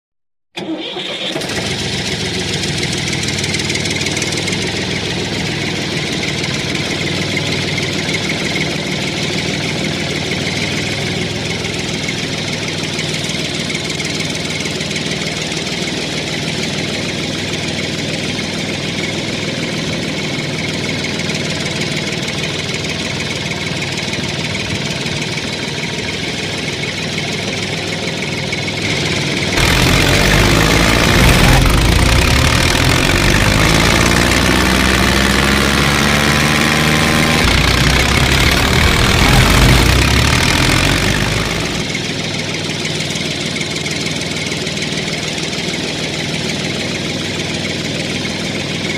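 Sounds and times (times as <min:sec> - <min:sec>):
tractor engine idling: 0:00.6 - 0:48.9.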